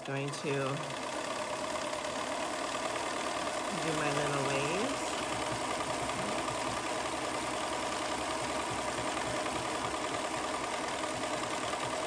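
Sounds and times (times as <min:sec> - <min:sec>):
sewing machine running: 0:00.0 - 0:12.0.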